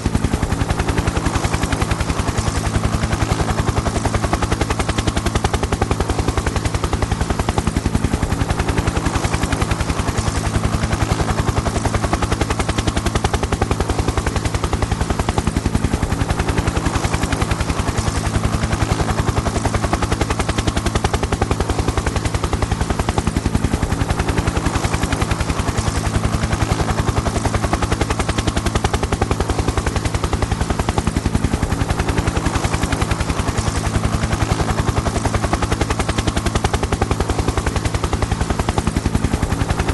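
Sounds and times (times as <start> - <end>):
helicopter low drone: 0.0 - 39.9
helicopter rotor chopping: 0.0 - 39.9.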